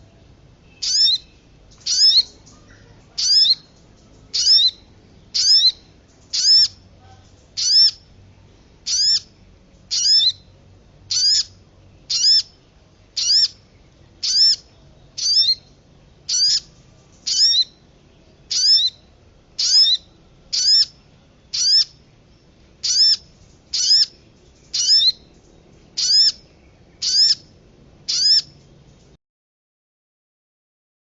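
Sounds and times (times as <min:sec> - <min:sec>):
sweeping bird call: 0:00.1 - 0:28.7.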